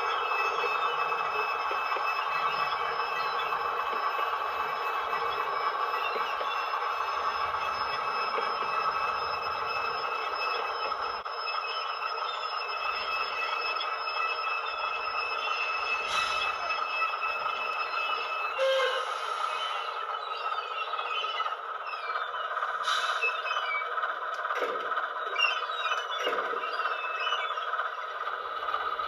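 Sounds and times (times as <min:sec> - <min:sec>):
high wheel squeal: 0:00.0 - 0:29.0
model train running: 0:00.0 - 0:29.0
rail noise: 0:00.0 - 0:29.0.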